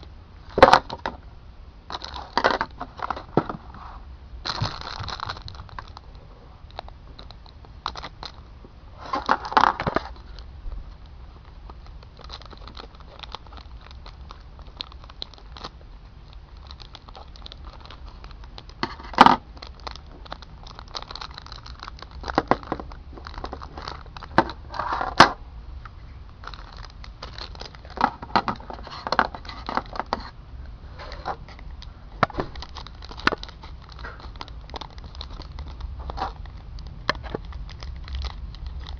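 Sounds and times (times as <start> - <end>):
plastic packaging crinkling: 1.9 - 3.6, 4.4 - 25.3, 26.3 - 30.4, 31.0 - 38.9.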